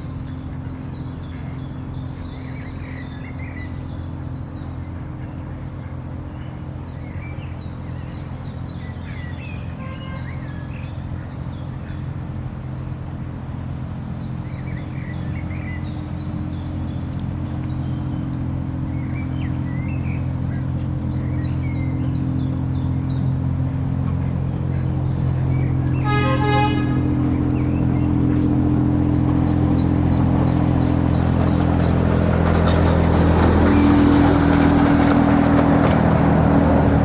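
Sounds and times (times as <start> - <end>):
songbird singing: 0.0 - 37.0.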